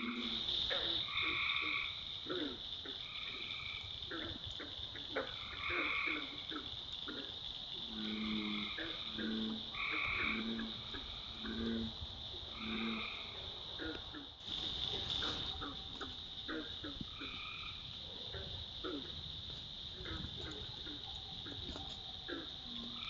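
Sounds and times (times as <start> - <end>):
deep frog croaks: 0.0 - 23.0
frog calls: 0.0 - 23.0
frogs trilling: 0.0 - 23.0.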